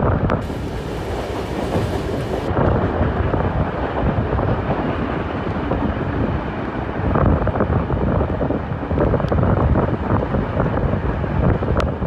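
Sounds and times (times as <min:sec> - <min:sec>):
train rumbling on track: 0:00.0 - 0:12.0
wind buffeting microphone: 0:00.0 - 0:12.0.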